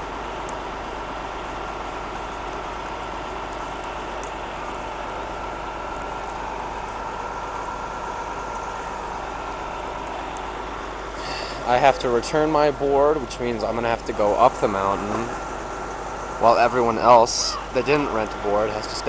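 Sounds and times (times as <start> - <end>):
vehicle engine hum inside cabin: 0.0 - 19.0.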